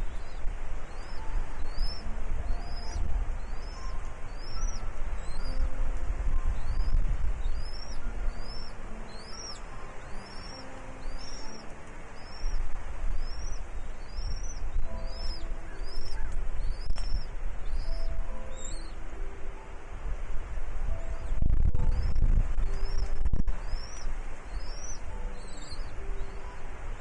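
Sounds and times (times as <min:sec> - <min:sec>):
bird chirping: 0:00.0 - 0:05.7, 0:06.3 - 0:19.0, 0:20.9 - 0:27.0
steady low rumble: 0:00.0 - 0:27.0.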